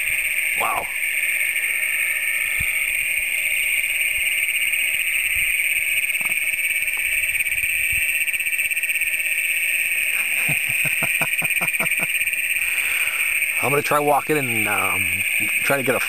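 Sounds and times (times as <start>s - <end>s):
chorus of toads trilling: 0.0s - 16.0s.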